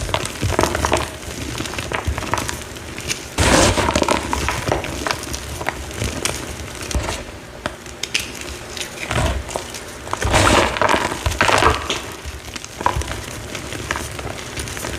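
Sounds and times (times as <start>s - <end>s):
crumbly block being crushed: 0.0s - 14.9s.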